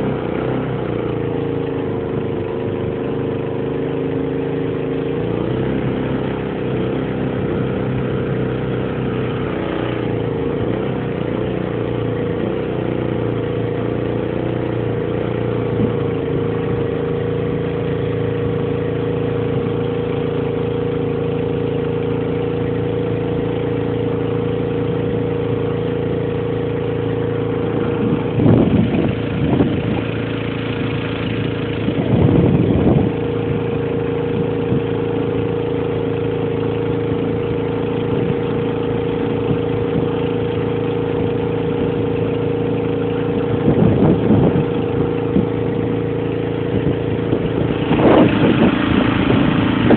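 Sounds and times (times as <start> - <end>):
boat motor running: 0.0 - 49.9.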